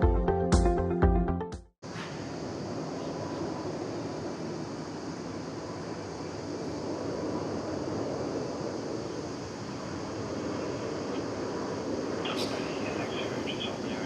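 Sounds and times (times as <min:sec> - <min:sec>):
low rumbling outdoor hiss: 0:01.8 - 0:14.0.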